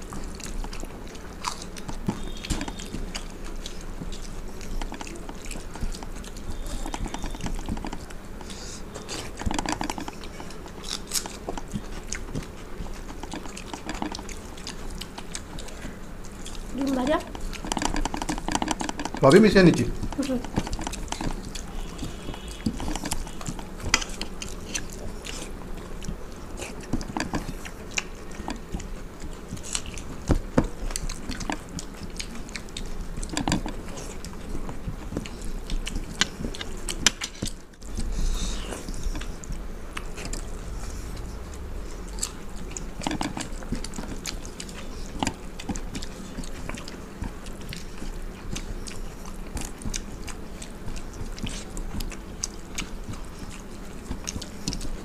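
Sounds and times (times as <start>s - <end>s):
people chewing food: 0.0s - 55.0s.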